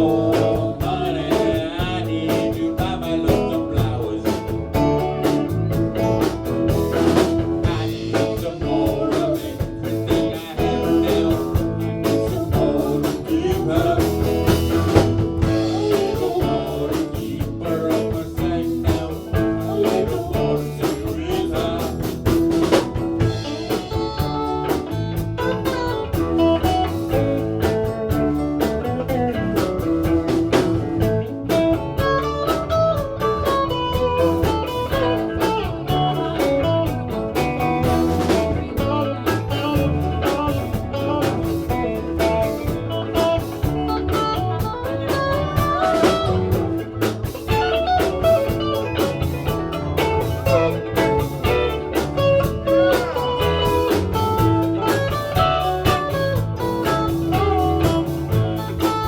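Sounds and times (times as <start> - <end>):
bass: 0.0 - 59.0
blues guitar lead: 0.0 - 59.0
drum kit: 0.0 - 59.0.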